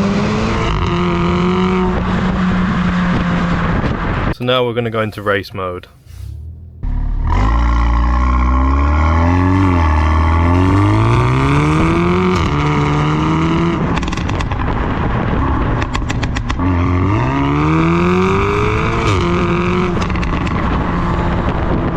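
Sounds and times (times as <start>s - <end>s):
car engine accelerating hard: 0.0s - 4.3s, 6.0s - 21.9s
exhaust cracks: 0.7s - 21.9s.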